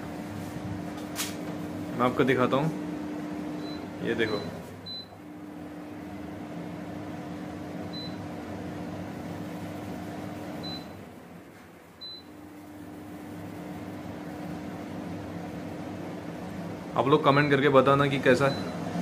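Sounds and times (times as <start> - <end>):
fan humming: 0.0 - 19.0.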